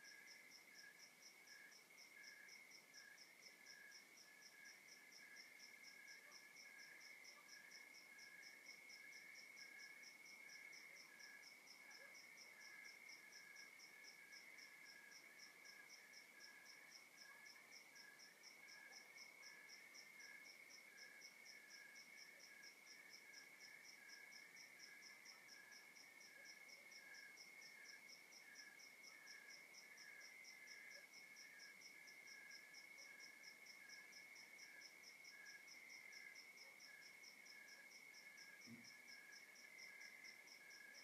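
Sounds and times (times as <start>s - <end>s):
cricket chirping: 0.0s - 41.0s
thin pulsing insect call: 0.0s - 41.0s.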